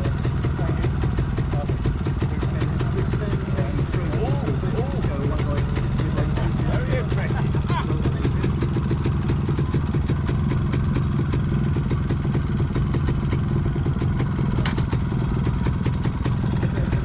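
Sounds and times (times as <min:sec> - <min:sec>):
rapid regular ticking: 0:00.0 - 0:17.0
vehicle engine idling: 0:00.0 - 0:17.0.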